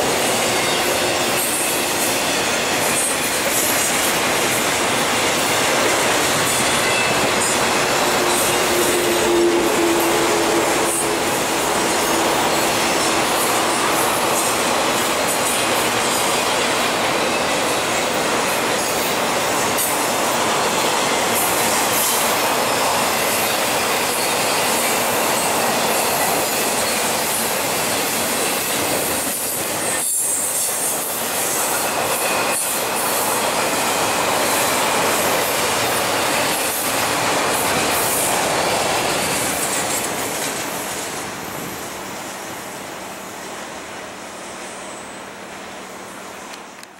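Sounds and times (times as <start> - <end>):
freight train wheels clattering on rails: 0.0 - 44.6.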